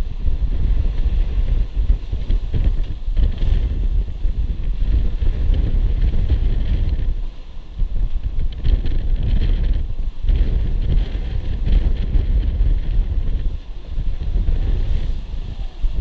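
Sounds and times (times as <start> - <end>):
waves splashing against hull: 0.0 - 16.0
wind buffeting microphone: 0.0 - 16.0.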